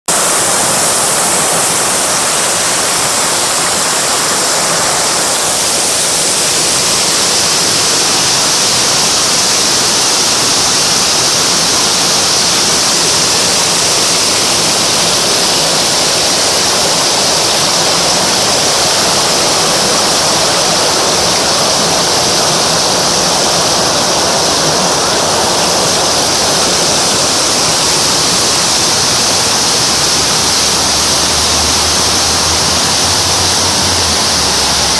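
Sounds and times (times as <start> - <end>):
water rushing: 0.1 - 34.9.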